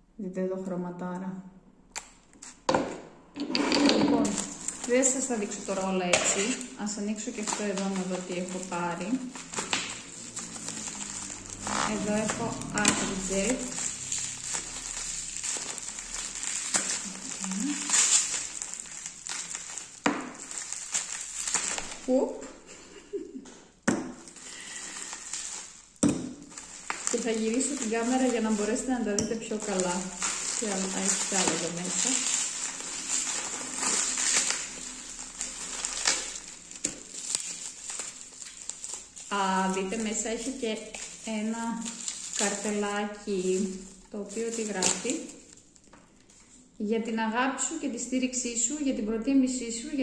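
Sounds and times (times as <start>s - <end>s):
bubble wrap crinkling: 3.8s - 46.8s.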